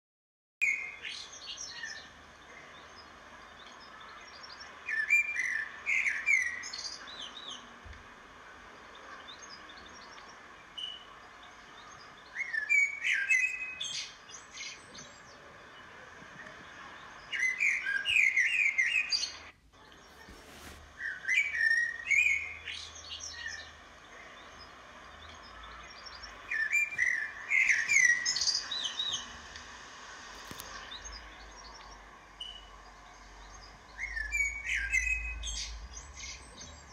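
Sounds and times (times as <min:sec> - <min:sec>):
faint steady hiss: 0:00.6 - 0:36.9
songbird chirping: 0:00.6 - 0:36.9.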